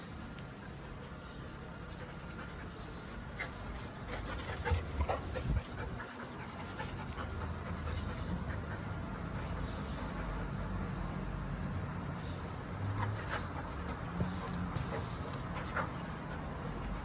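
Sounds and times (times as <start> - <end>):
dogs panting: 0.0 - 17.0.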